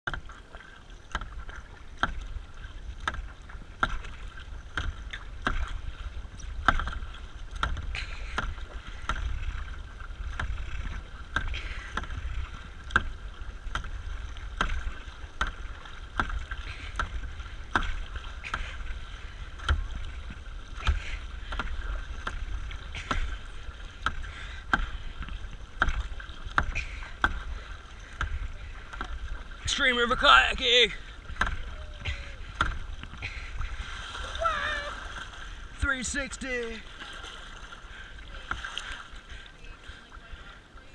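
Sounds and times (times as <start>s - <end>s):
water rumbling along hull: 0.0s - 40.9s
kayak paddle strokes: 0.1s - 40.9s.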